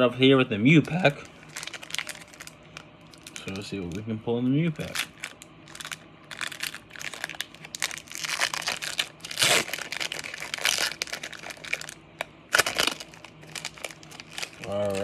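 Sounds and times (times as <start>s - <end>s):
foil wrapper tearing and crinkling: 1.0s - 4.0s, 4.8s - 15.0s.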